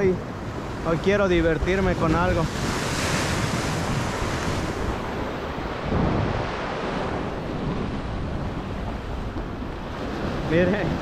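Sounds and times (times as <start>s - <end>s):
sea waves breaking over rocks: 0.0s - 11.0s
wind buffeting microphone: 0.0s - 11.0s.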